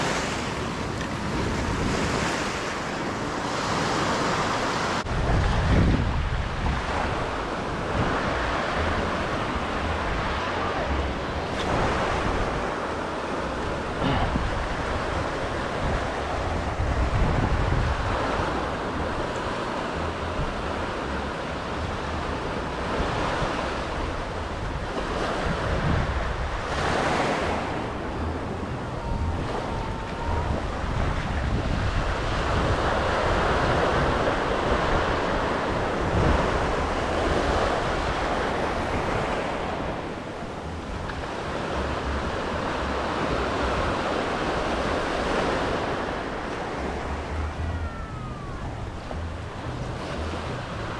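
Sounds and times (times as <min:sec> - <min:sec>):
ocean waves breaking on shore: 0:00.0 - 0:50.9
wind rumbling on microphone: 0:00.0 - 0:50.9.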